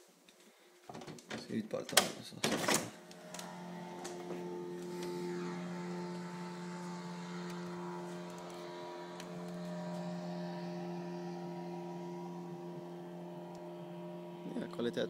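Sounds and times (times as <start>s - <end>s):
steady mechanical hum: 2.3s - 15.0s.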